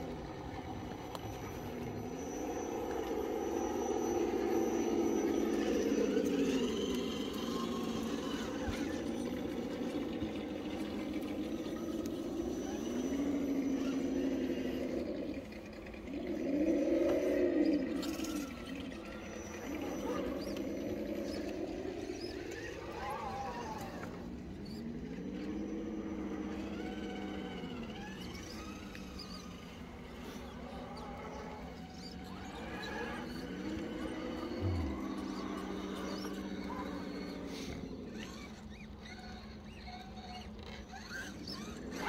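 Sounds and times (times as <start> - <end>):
electric motor and gearbox whining: 0.0 - 42.0.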